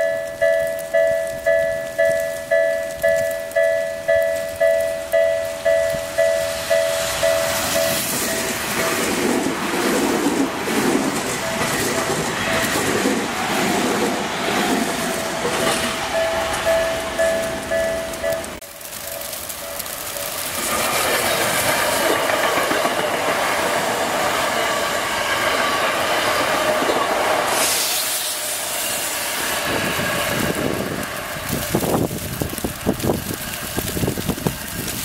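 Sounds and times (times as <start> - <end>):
electric train running past: 0.0 - 35.0.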